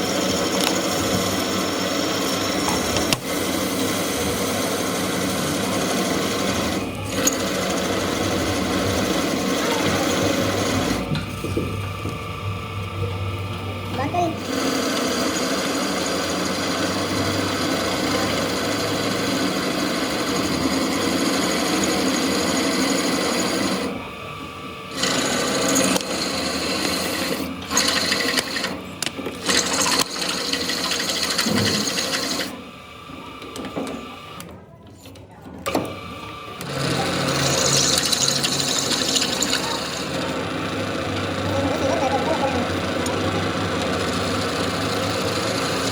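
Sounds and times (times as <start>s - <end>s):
workshop machinery running: 0.0s - 45.9s.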